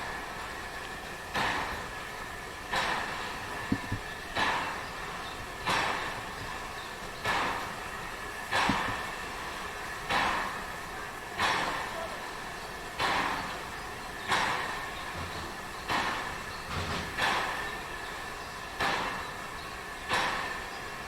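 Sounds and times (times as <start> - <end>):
train moving slowly: 0.0 - 21.0.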